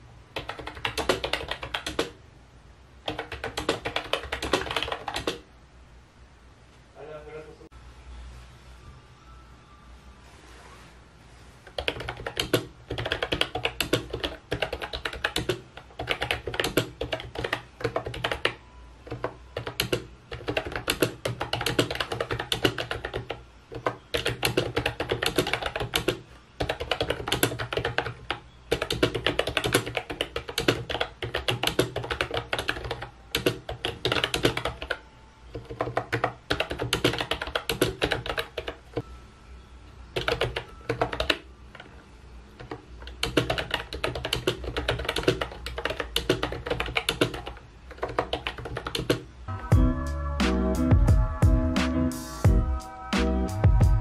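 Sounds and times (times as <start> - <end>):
keyboard keys clacking: 0.4 - 2.2, 3.1 - 5.4, 11.7 - 39.1, 40.1 - 42.0, 42.6 - 54.0
soft background music: 7.7 - 54.0.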